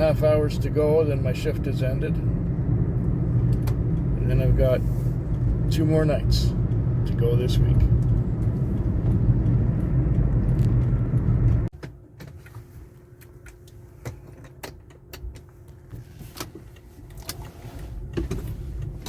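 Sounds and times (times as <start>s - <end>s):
car engine rumble inside cabin: 0.0s - 19.0s.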